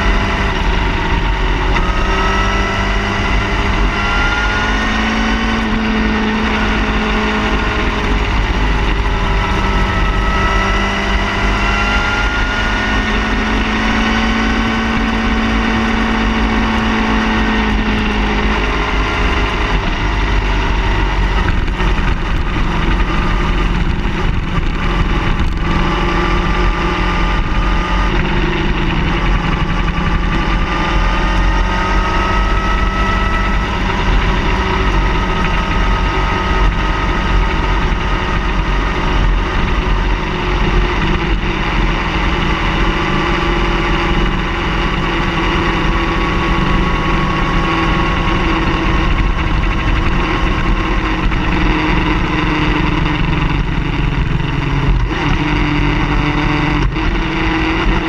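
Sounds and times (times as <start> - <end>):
car engine running: 0.0 - 58.0.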